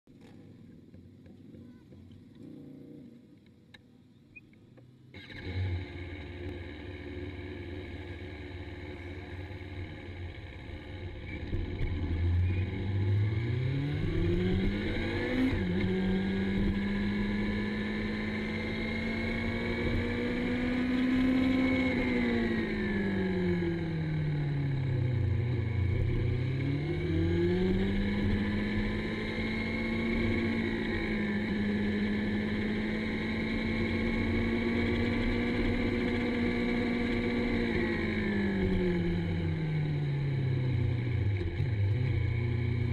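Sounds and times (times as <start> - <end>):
motorcycle engine revving: 0.2 - 3.3, 5.1 - 42.9.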